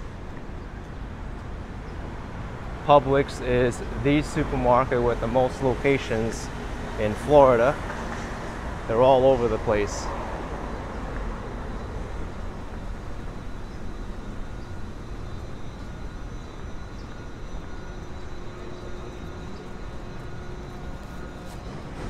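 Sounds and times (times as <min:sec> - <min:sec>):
urban background rumble: 0:00.0 - 0:22.0.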